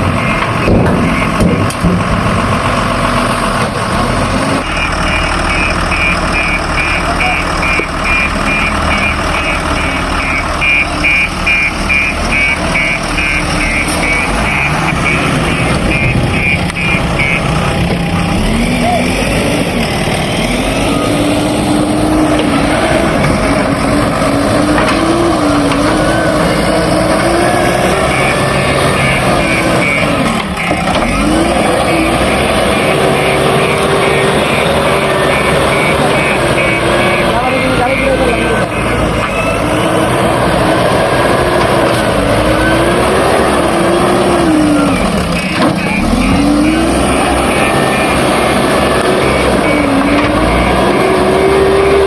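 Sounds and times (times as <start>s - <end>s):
reversing alarm beeping: 0.0s - 1.6s, 4.6s - 19.5s, 20.2s - 40.3s, 42.4s - 52.0s
diesel engines working: 0.0s - 52.0s.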